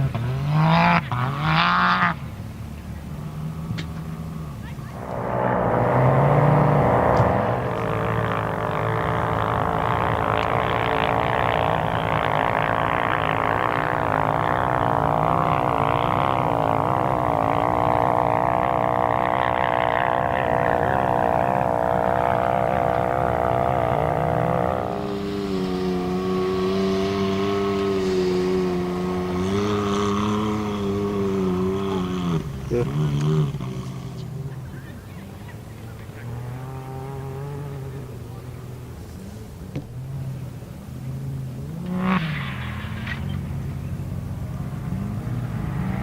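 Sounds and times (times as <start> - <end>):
road noise: 0.0 - 46.0
truck engine hum: 2.0 - 46.0.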